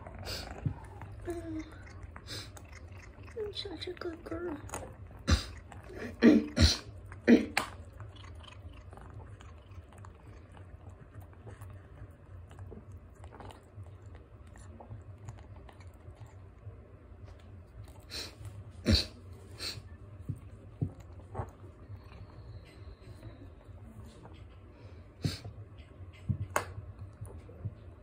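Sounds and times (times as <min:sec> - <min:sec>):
cat chewing and licking food: 0:00.0 - 0:28.0.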